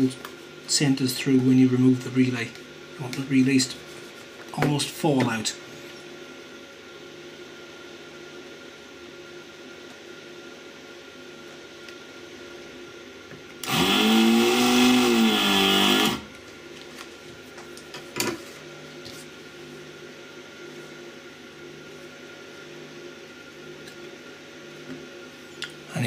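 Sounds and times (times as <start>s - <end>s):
desoldering vacuum pump whirring: 0.0s - 26.0s.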